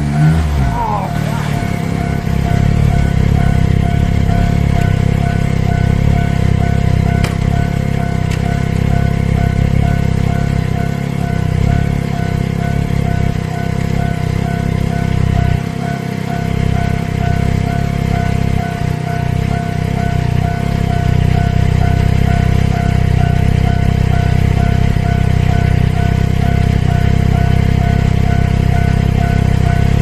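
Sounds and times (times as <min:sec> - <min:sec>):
continuous low rumble: 0:00.0 - 0:30.0
level-crossing alarm ringing: 0:00.0 - 0:30.0.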